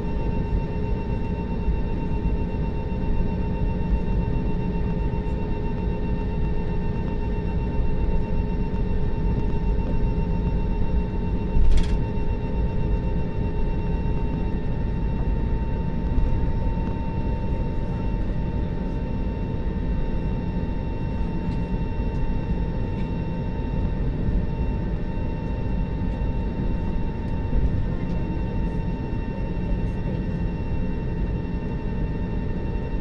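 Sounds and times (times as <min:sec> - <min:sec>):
jet engine and airflow roar: 0:00.0 - 0:33.0.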